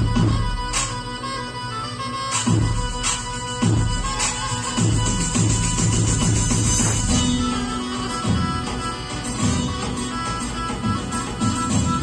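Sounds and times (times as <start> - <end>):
bass and drum beat: 0.0 - 1.4, 2.3 - 12.0
keyboard folk melody: 0.0 - 12.0.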